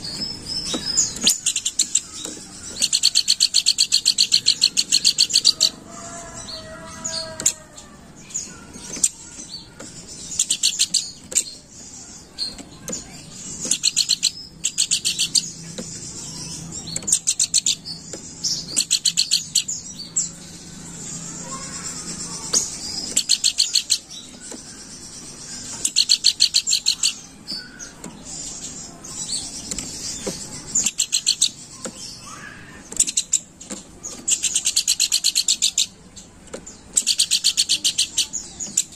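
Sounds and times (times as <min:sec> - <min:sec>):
bird chattering song: 0:00.0 - 0:38.9
soft bird calls: 0:00.0 - 0:38.9.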